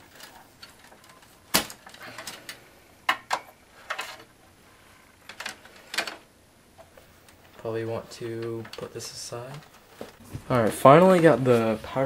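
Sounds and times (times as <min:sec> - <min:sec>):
hands handling cables and connectors: 0:00.0 - 0:12.0.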